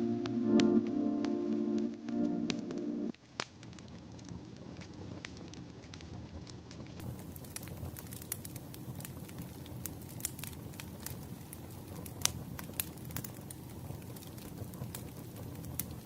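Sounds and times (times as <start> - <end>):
wood fire crackling and popping: 0.0 - 16.0
low rumble of flame: 3.1 - 16.0.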